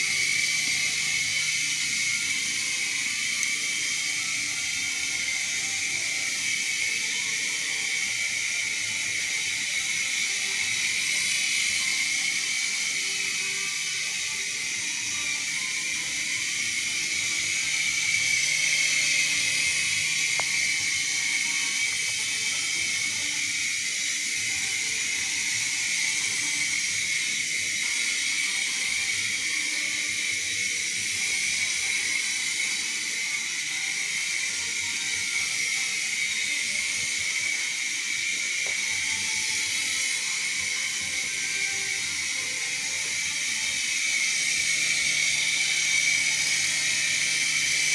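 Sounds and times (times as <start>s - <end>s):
toy helicopter motor whine: 0.0s - 47.9s.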